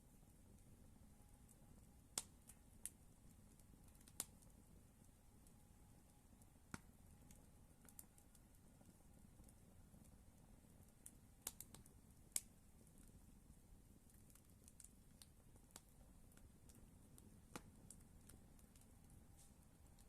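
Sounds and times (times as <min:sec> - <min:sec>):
campfire crackling and popping: 0:00.1 - 0:20.0.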